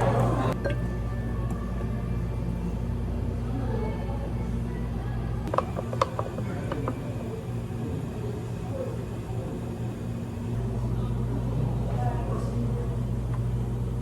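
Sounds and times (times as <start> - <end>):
low hum of cafe equipment: 0.0 - 14.0.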